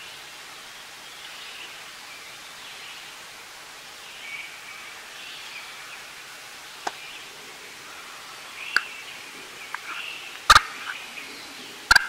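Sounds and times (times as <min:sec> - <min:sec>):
songbirds singing: 0:00.0 - 0:12.0
steady rushing hiss: 0:00.0 - 0:12.0.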